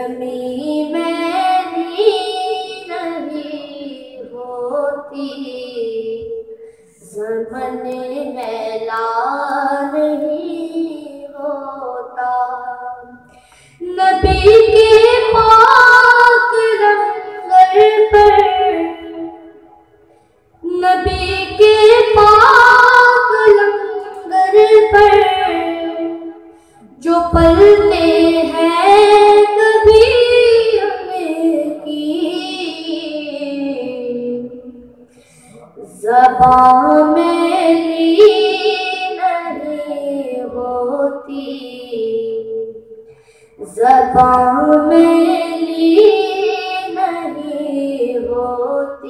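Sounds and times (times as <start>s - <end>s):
child singing: 0.0s - 19.6s, 20.6s - 26.4s, 27.0s - 42.8s, 43.6s - 49.0s.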